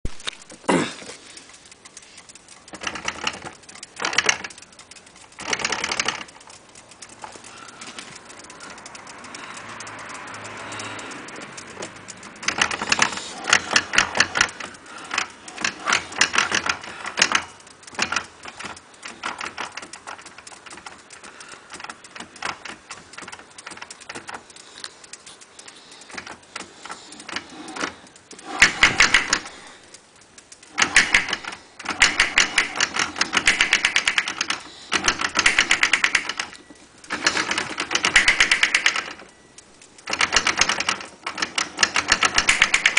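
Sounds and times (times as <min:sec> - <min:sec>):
rapid mechanical rattling clicks: 0:00.0 - 0:42.9.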